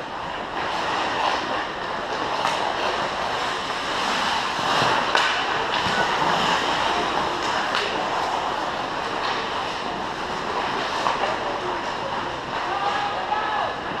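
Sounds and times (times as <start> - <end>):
crowd noise: 0.0 - 14.0
skates on ice: 0.6 - 11.8.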